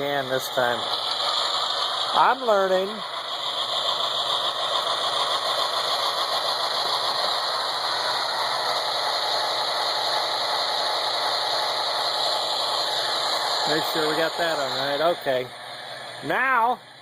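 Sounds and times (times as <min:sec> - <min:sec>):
model train engine idle sound: 0:00.0 - 0:17.0.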